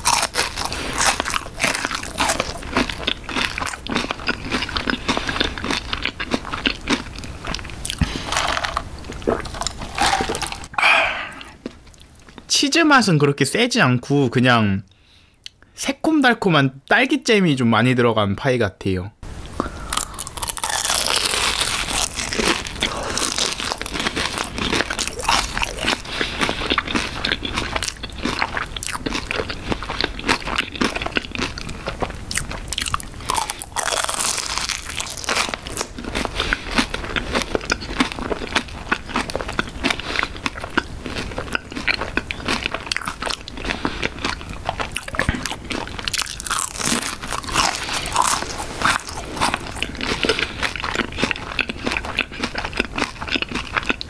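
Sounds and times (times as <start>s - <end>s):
crispy crust crunching: 0.0s - 10.7s, 19.9s - 54.0s.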